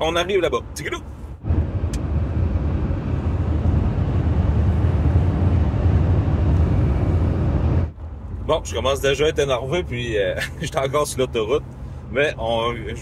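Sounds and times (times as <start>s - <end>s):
road and wind noise from vehicle: 0.0s - 13.0s.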